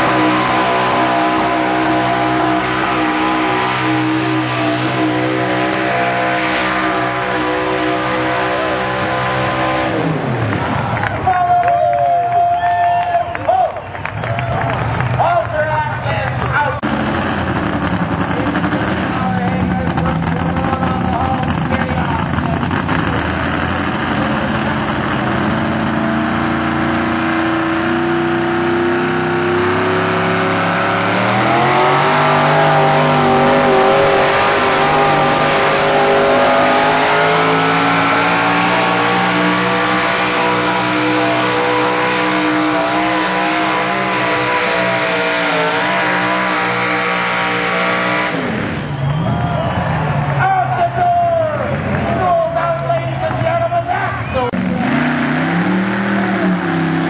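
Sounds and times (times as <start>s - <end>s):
tractor engine at full throttle: 0.0s - 12.4s, 13.2s - 57.0s.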